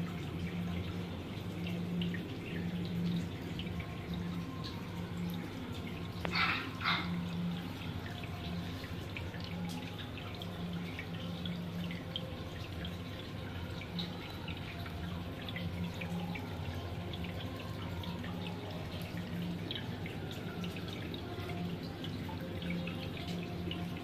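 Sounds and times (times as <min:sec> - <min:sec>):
aquarium water bubbling: 0:00.0 - 0:24.0.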